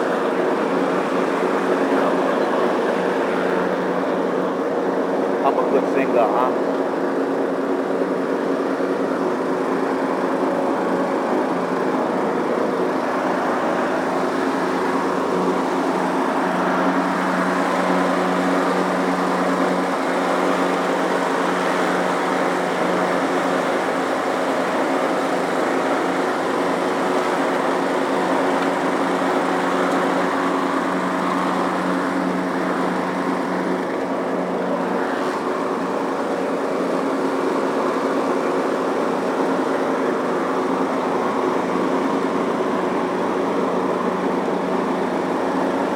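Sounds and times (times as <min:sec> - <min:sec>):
riding lawn mower engine: 0:00.0 - 0:45.9.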